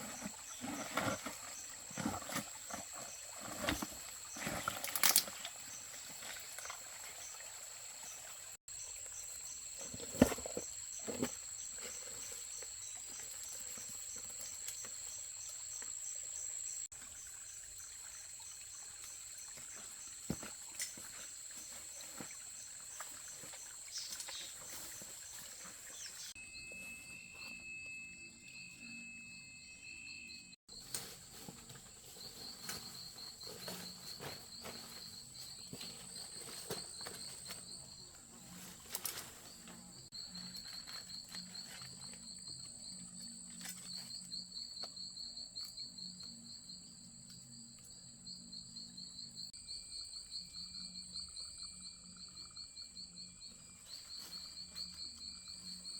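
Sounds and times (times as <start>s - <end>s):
insects buzzing and chirping: 0.0s - 55.9s.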